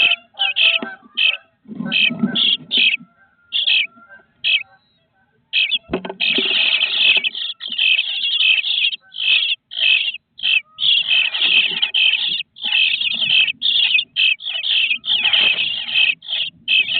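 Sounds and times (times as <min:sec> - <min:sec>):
nestling birds calling raspily: 0:00.0 - 0:16.9.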